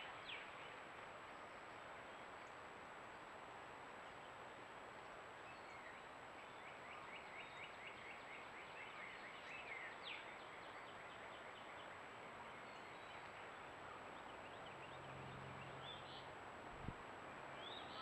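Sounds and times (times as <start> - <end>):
faint birdsong: 0.0 - 18.0.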